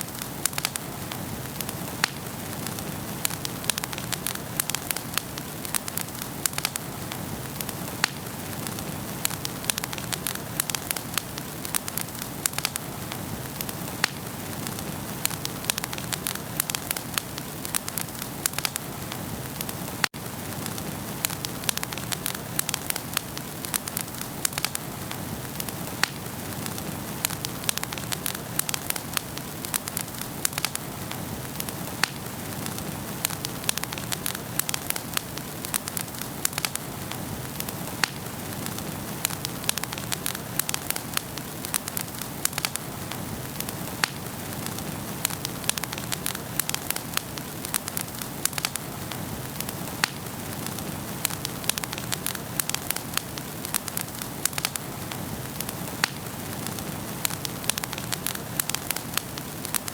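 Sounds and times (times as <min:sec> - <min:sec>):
burning logs crackling and popping: 0:00.0 - 0:59.9
fire hissing: 0:00.0 - 0:59.9.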